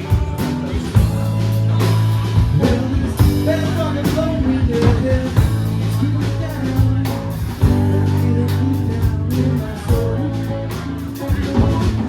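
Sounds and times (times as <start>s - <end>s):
bass guitar: 0.0s - 12.0s
drum kit and cymbals: 0.0s - 12.0s
electric guitar: 0.0s - 12.0s.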